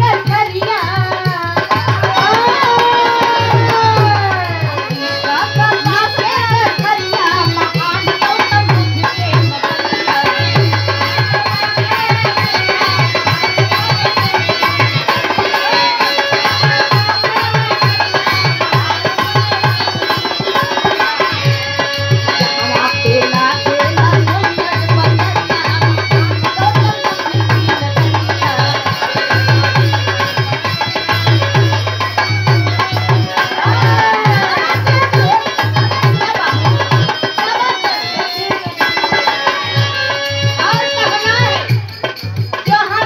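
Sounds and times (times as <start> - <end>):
woman singing: 0.0 - 41.8, 42.6 - 43.0
dholak drumming: 0.0 - 43.0
harmonium: 0.0 - 43.0.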